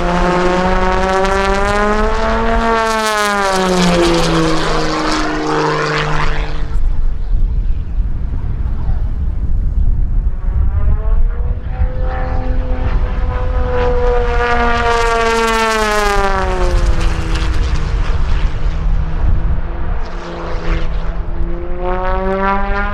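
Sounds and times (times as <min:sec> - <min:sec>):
constant low rumble: 0:00.0 - 0:22.9
propeller plane flying past: 0:00.0 - 0:22.9.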